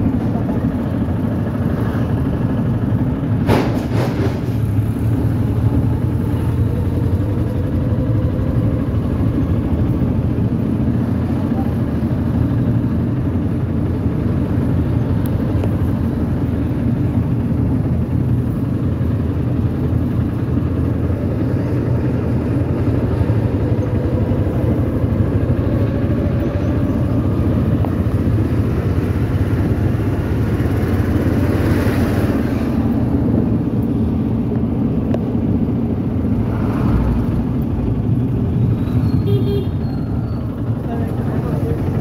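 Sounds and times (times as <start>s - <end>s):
road noise: 0.0s - 42.0s
small engine droning: 4.2s - 42.0s.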